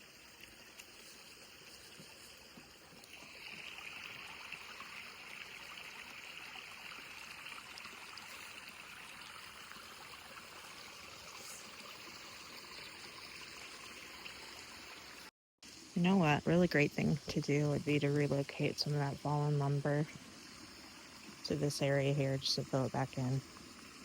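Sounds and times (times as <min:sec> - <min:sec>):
stream running: 0:00.0 - 0:24.0.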